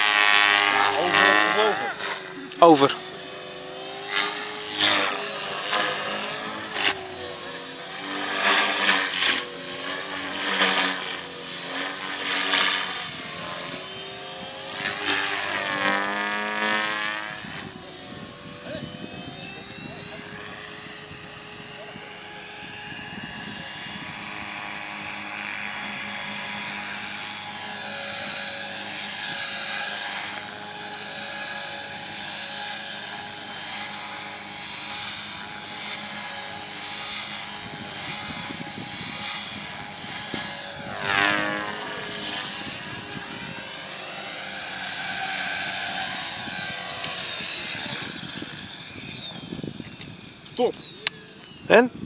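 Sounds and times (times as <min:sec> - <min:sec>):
rc helicopter whine: 0:00.0 - 0:52.0.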